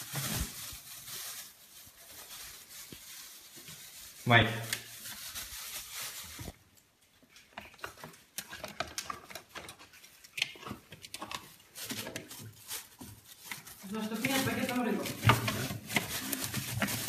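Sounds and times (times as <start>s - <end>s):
rustling and crinkling packages: 0.0s - 17.0s.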